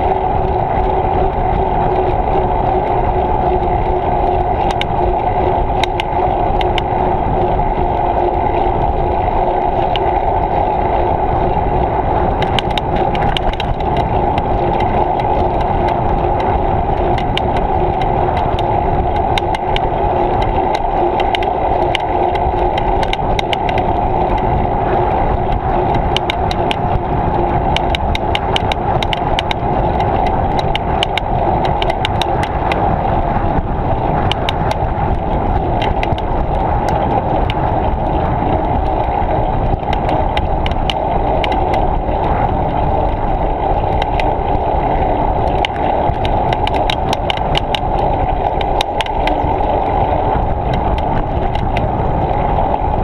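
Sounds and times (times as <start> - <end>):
bicycle clicks and rattles: 0.0 - 53.0
bicycle tyre rumble: 0.0 - 53.0
wind: 0.0 - 53.0.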